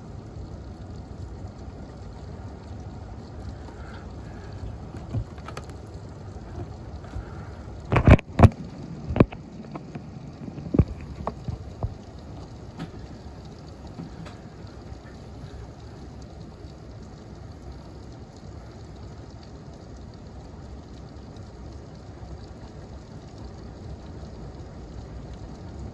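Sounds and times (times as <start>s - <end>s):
rain hissing: 0.0s - 25.9s.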